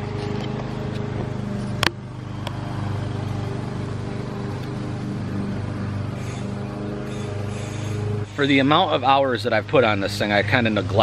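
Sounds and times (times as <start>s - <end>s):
motor idling: 0.0s - 11.0s.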